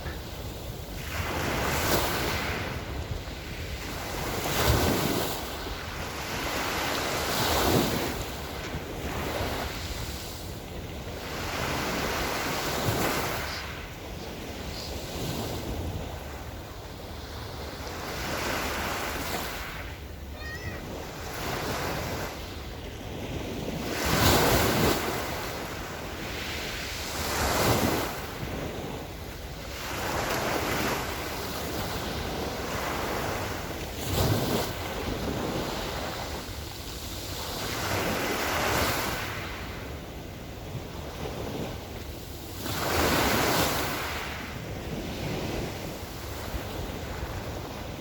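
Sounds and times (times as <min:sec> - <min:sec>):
small waves washing ashore: 0:00.0 - 0:48.0.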